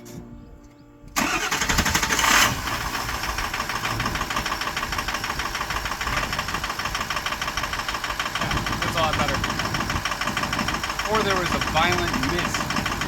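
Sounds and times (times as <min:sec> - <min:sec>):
diesel engine starting and idling: 0:01.1 - 0:13.0.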